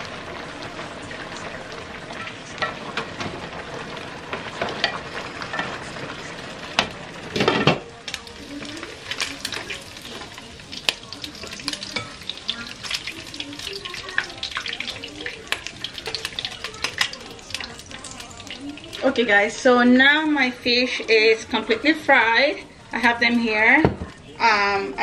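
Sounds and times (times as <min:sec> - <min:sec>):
fish sizzling in frying pan: 0:00.0 - 0:23.5.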